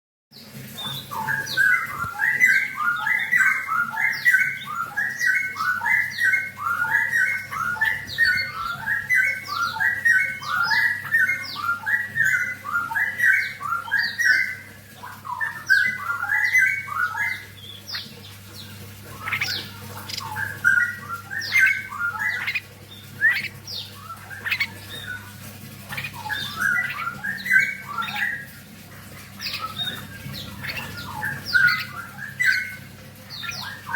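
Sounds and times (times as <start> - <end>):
birds squawking: 0.7 - 33.9.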